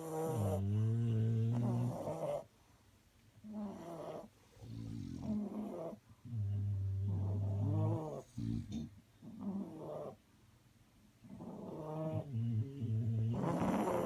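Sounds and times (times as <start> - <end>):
dog snoring: 0.0 - 2.5, 3.5 - 10.2, 11.2 - 14.0.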